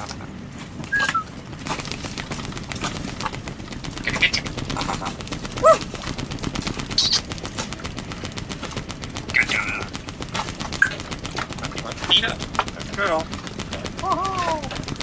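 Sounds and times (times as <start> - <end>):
parrot beak clicking on wicker: 0.9 - 15.0.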